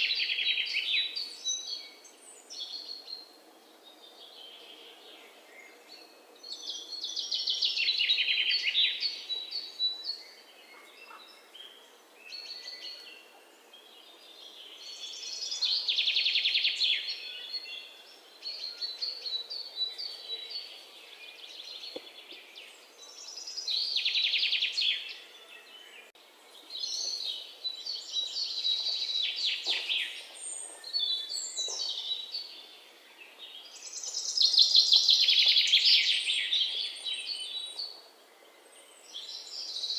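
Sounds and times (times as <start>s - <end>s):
songbird singing with fast trill: 0.0s - 3.4s, 4.0s - 39.9s.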